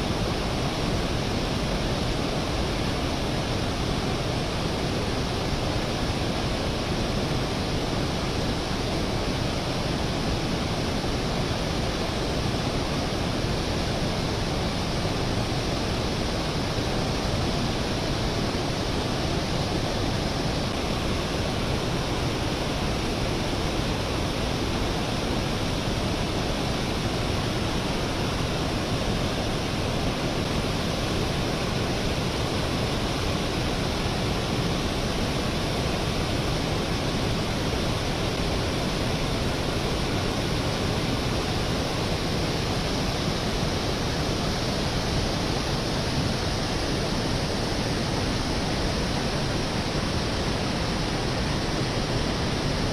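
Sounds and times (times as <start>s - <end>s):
falling water rushing: 0.0s - 52.9s.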